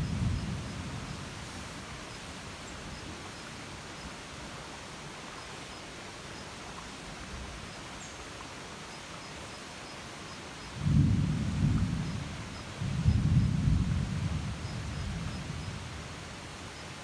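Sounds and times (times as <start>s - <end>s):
hiss of rain or rushing water: 0.0s - 17.0s.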